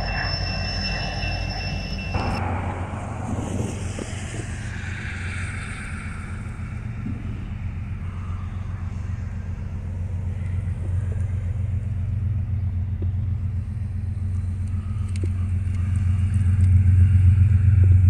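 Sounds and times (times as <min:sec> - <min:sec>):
diesel locomotive engines rumbling: 0:00.0 - 0:18.0.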